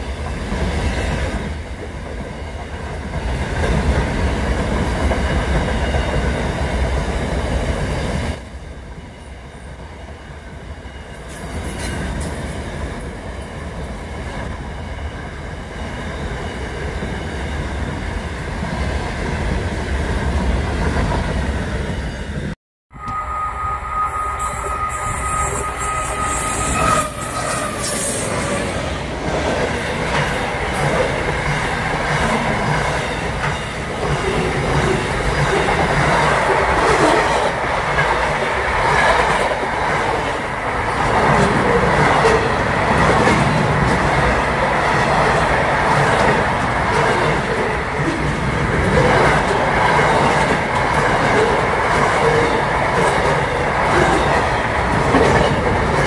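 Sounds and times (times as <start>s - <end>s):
freight train rumble: 0.0s - 56.0s.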